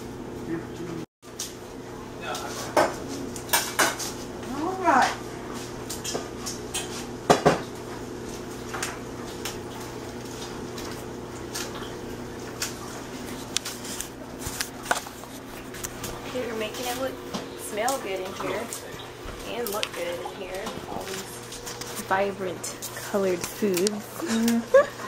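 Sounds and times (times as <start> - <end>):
steady low hum: 1.6 - 25.0.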